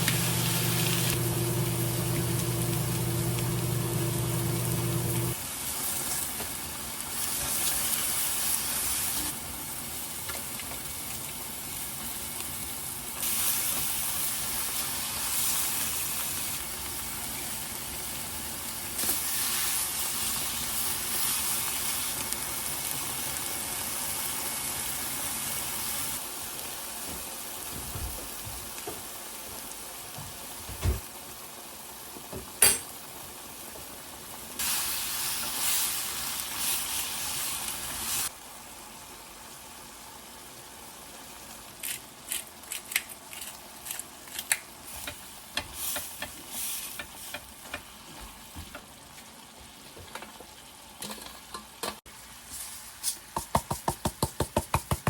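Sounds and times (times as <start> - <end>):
food sizzling in a frying pan: 0.0 - 53.7.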